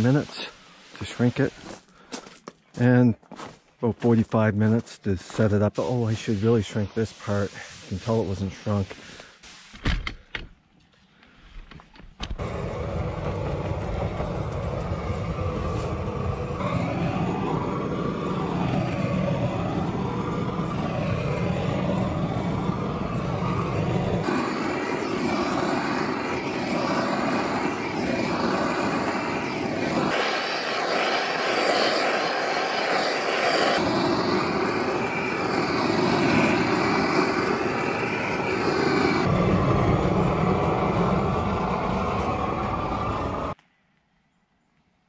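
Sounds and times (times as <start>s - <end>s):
propane torch burning: 0.0s - 1.8s, 5.3s - 9.8s, 12.2s - 43.6s.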